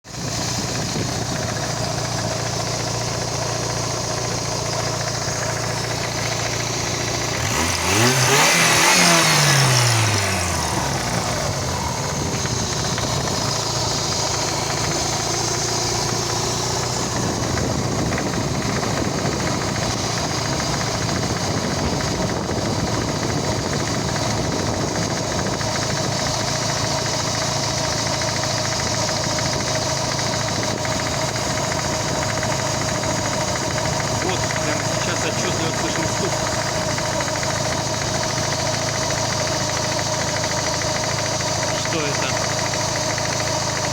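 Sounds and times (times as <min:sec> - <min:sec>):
car engine idling with knock: 0:00.0 - 0:43.9
car engine revving: 0:01.4 - 0:24.4, 0:30.4 - 0:43.9.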